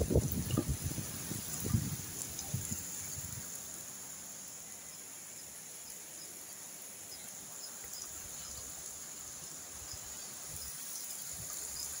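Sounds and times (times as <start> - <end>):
insects trilling: 0.0 - 12.0
steady rain falling: 0.0 - 12.0.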